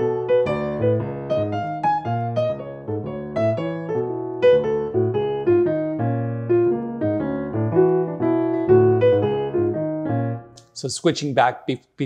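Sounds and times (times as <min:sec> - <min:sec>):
jazz piano: 0:00.0 - 0:10.7.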